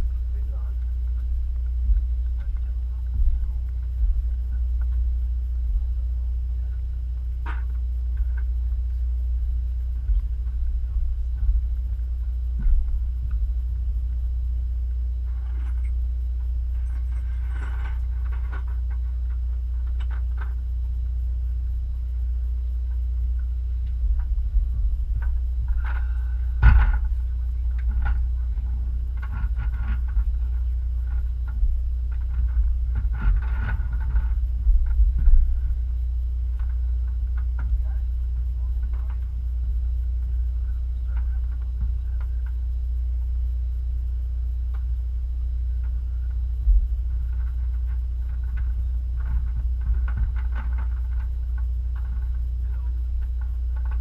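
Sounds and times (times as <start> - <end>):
low engine rumble: 0.0 - 54.0
faint knocks and clatter: 6.6 - 21.2, 22.6 - 43.0, 45.7 - 54.0.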